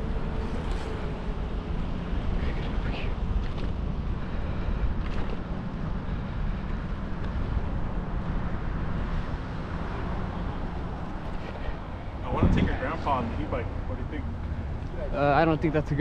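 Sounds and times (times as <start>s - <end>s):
road noise: 0.0s - 16.0s
wind rushing across microphone: 0.0s - 16.0s.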